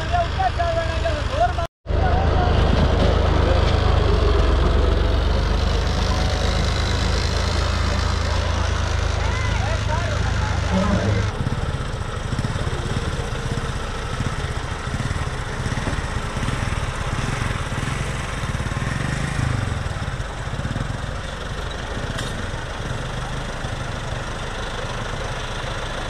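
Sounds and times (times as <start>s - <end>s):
tractor engine running at low revs: 0.0s - 26.0s.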